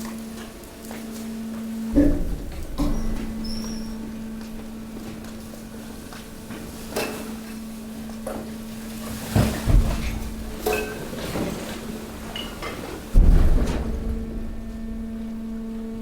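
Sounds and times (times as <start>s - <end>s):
compactor machine hum: 0.0s - 16.0s.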